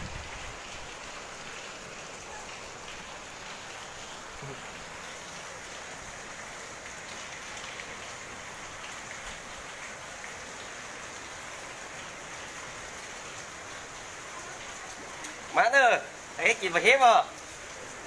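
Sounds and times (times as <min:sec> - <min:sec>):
rain and hail pelting: 0:00.0 - 0:18.0.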